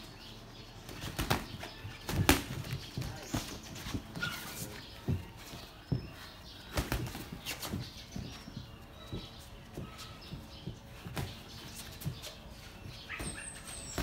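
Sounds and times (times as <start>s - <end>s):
boxing gloves thudding and slapping: 0.8s - 12.5s, 13.2s - 14.0s.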